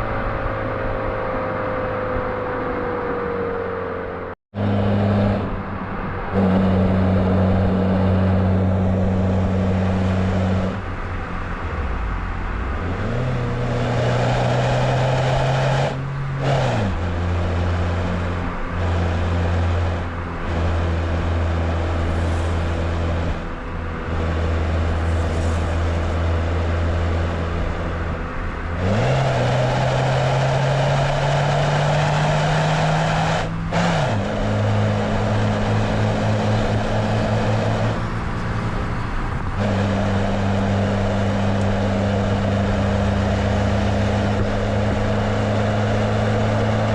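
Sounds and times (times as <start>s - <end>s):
car engine pulling under load: 0.0s - 46.9s.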